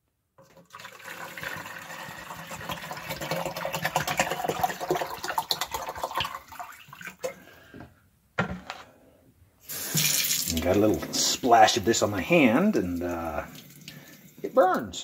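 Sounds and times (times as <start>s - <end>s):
liquid pouring and splashing: 0.4s - 7.5s, 9.7s - 15.0s.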